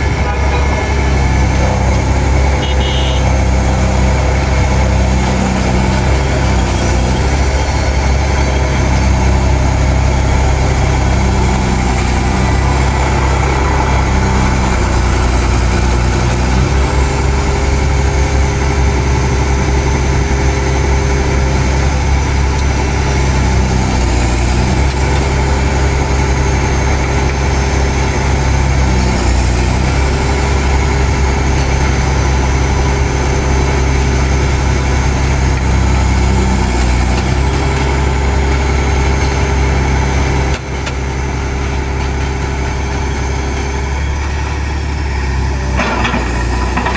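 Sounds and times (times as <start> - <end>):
diesel engine drone: 0.0 - 46.9.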